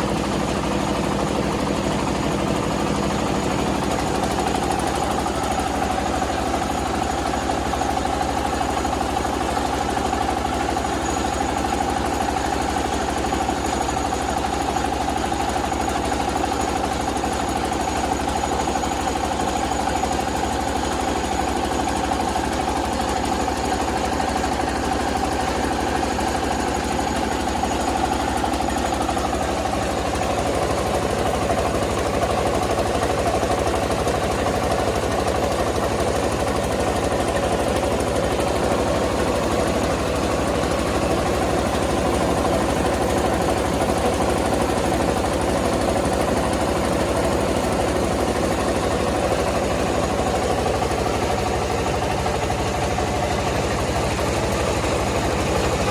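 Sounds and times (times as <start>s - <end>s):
rice milling machine engine running: 0.0s - 55.9s.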